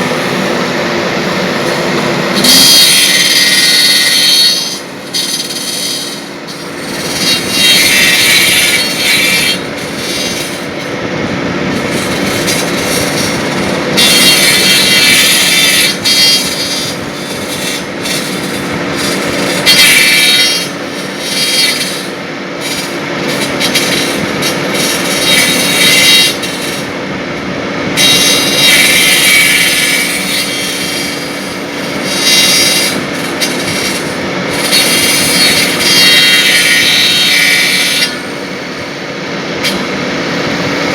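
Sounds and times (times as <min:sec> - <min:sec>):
high-pitched cutter shaving wood: 0:00.0 - 0:40.9
lathe humming: 0:00.0 - 0:40.9.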